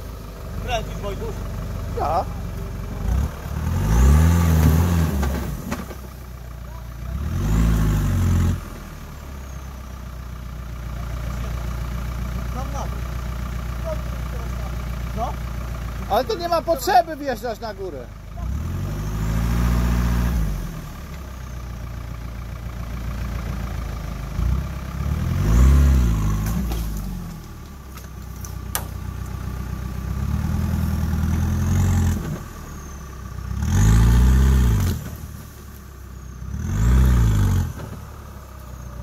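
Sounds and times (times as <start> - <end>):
buggy engine revving: 0.0 - 39.0.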